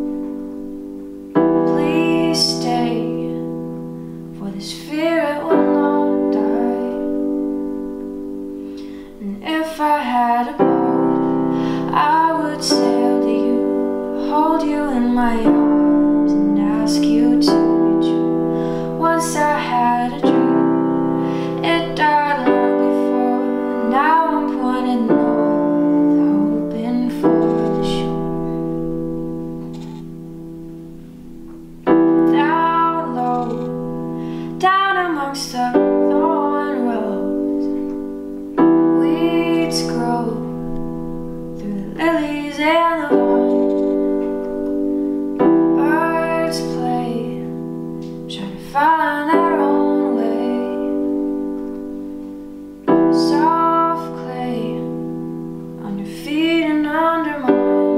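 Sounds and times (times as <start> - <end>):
digital piano chords: 0.0 - 57.9
woman singing: 1.4 - 7.7, 8.8 - 28.6, 31.8 - 40.9, 41.5 - 44.5, 45.4 - 51.6, 52.8 - 57.9.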